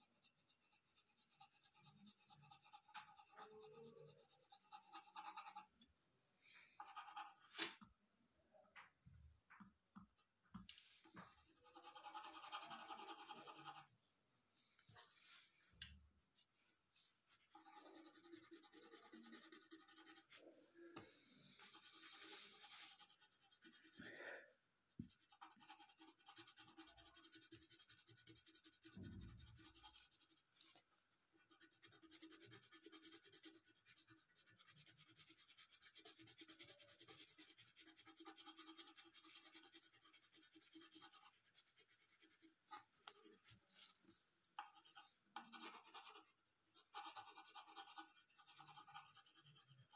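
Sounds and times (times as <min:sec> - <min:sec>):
colored pencil scratching on paper: 0:00.0 - 0:05.8, 0:06.7 - 0:07.8, 0:11.0 - 0:13.9, 0:16.9 - 0:49.9.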